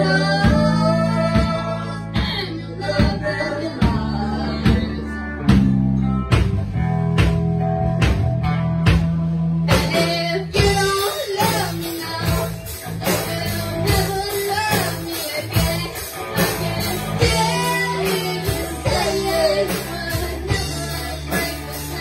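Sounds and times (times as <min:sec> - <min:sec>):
bass line: 0:00.0 - 0:22.0
drum kit beat: 0:00.0 - 0:22.0
electric guitars: 0:00.0 - 0:22.0.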